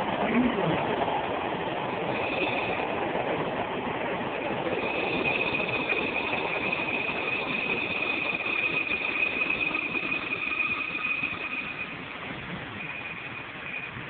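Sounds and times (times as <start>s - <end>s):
high steady whine: 0.0s - 14.0s
train rumble from inside: 0.0s - 14.0s.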